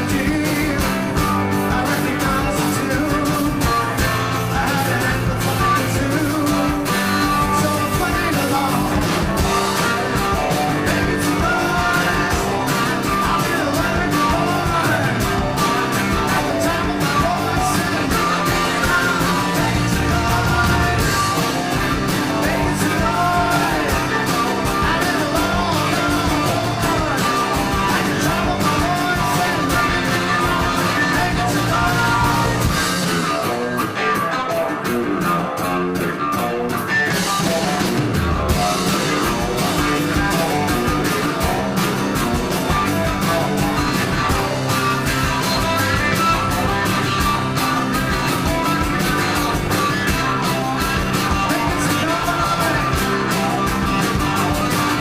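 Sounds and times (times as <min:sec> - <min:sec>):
rock music with singing: 0:00.0 - 0:55.0.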